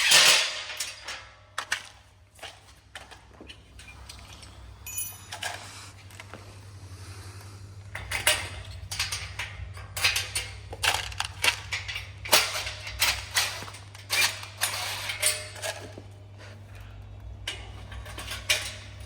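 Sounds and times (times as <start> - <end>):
metal parts clattering: 0.0 - 5.9, 7.9 - 16.0, 17.4 - 19.0.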